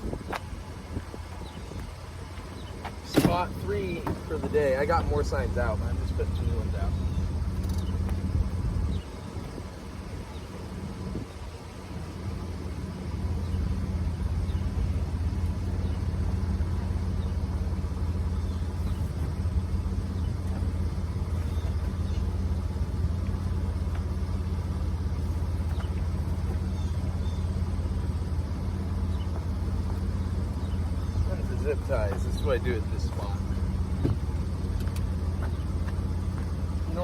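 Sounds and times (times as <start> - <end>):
truck engine and road rumble: 0.0 - 37.0.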